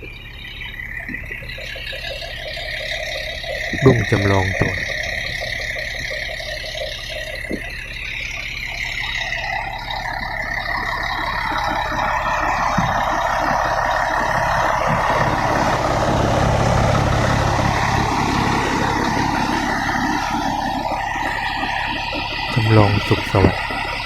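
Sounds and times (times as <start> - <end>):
bus diesel engine idling: 2.1 - 24.0.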